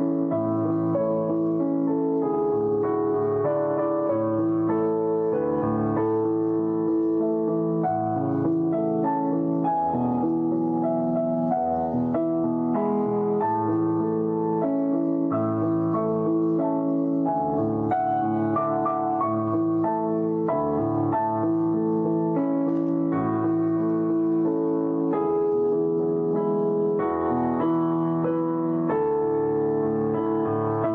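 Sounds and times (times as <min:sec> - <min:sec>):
slow piano music: 0:00.0 - 0:30.9.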